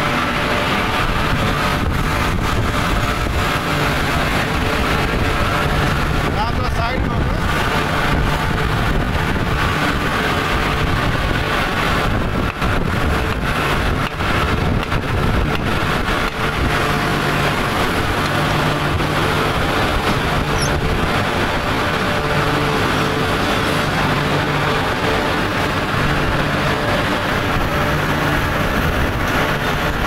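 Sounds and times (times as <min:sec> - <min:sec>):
industrial machinery din: 0:00.0 - 0:30.0.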